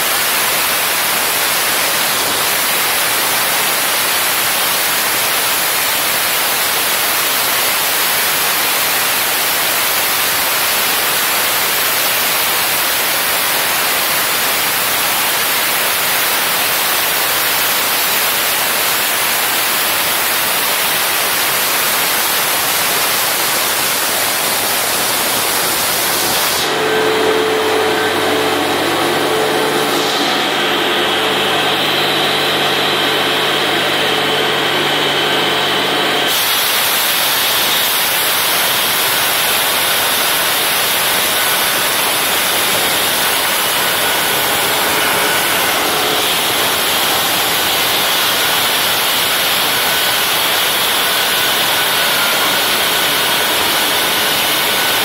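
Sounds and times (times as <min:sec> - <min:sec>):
concrete saw cutting: 0:00.0 - 0:55.0.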